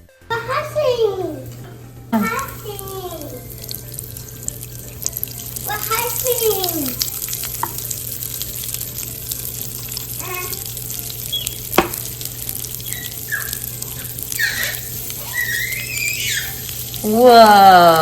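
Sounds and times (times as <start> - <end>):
liquid fizzing and bubbling: 2.2 - 18.0.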